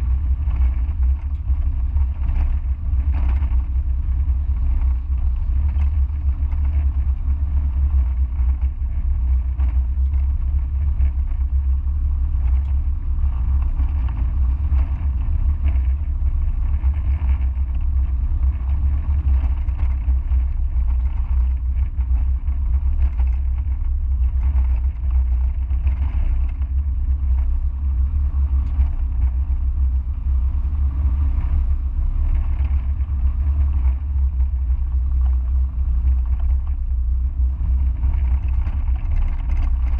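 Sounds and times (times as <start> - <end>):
car engine rumble: 0.0 - 39.9
road noise: 7.7 - 39.9.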